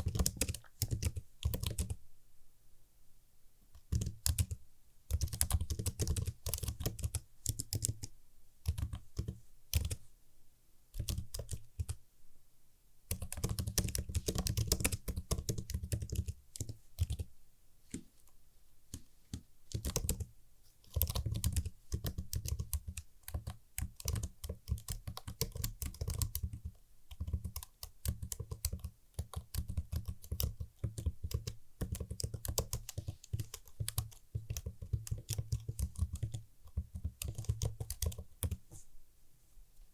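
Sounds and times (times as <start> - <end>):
typing on mechanical keyboard: 0.0 - 2.0, 3.8 - 10.0, 11.0 - 12.0, 13.1 - 17.3, 18.9 - 38.6.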